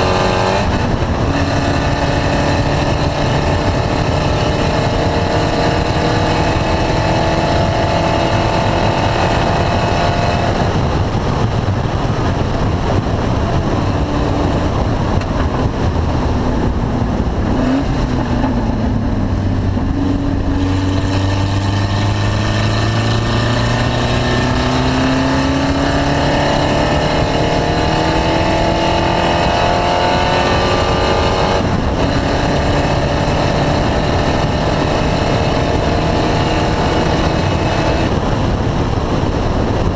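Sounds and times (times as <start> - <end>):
race car engine running: 0.0 - 39.9
road noise: 0.0 - 39.9
wind noise: 0.0 - 39.9.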